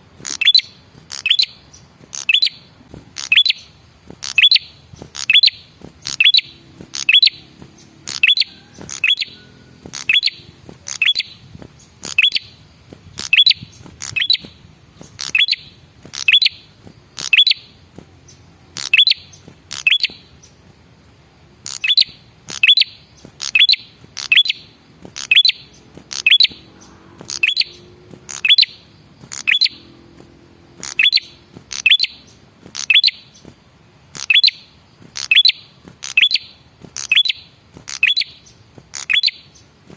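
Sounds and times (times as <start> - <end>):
bird calling with sharp chirps: 0.0 - 39.9.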